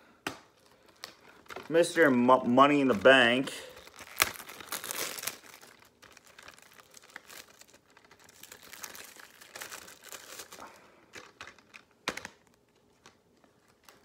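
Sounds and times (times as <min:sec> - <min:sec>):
plastic shrink wrap crinkling: 0:00.3 - 0:14.0.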